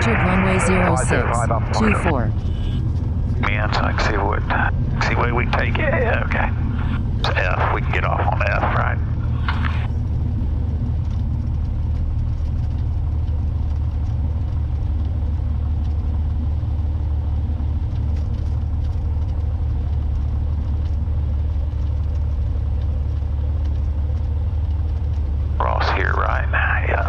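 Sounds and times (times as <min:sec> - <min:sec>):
propeller aircraft engine droning: 0:00.0 - 0:27.0.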